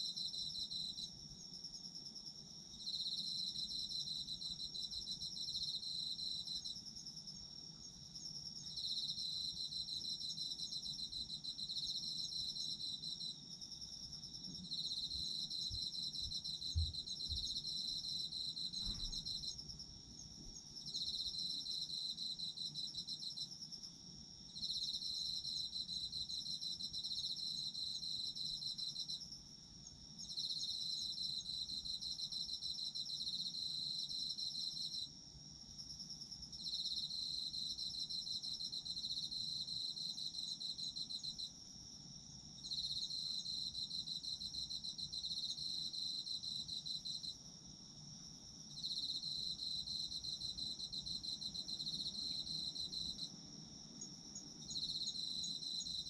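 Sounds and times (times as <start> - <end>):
cricket pulsing trill: 0.0 - 35.1, 35.7 - 56.0
insects trilling steadily: 0.0 - 56.0.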